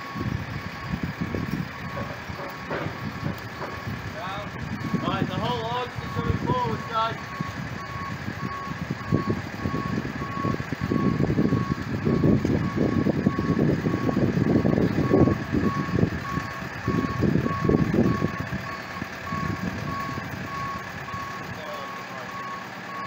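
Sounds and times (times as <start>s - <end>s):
gusty low rumble: 0.0s - 21.6s
warning beeper beeping: 2.9s - 14.3s, 15.0s - 23.0s.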